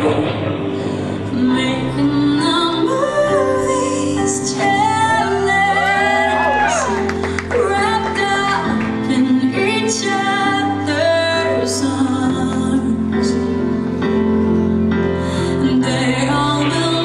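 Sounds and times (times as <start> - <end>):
woman singing: 1.2 - 13.7, 15.3 - 17.0.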